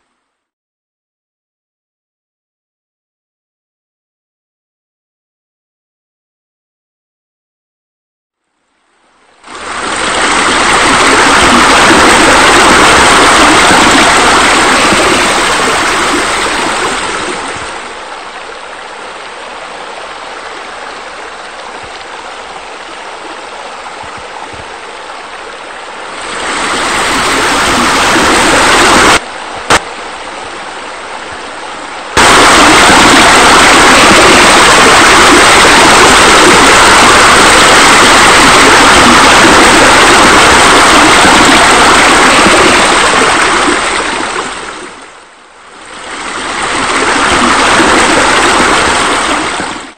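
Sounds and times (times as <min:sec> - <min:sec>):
rushing water: 0:09.1 - 0:49.9.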